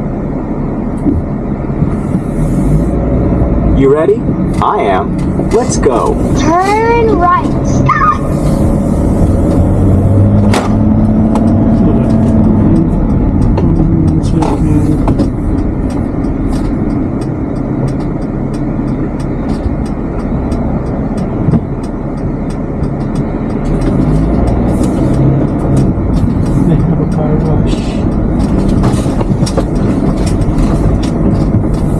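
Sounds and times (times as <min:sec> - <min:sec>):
turn signal ticking: 0:00.0 - 0:31.9
vehicle engine and road noise: 0:00.0 - 0:31.9.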